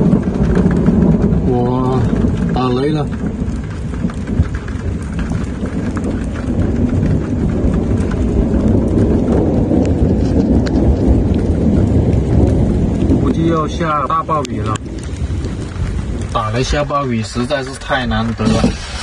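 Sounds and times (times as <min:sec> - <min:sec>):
heavy rain: 0:00.0 - 0:19.0
low rumble of thunder: 0:00.0 - 0:19.0
raindrops ticking on hard surface: 0:00.0 - 0:19.0.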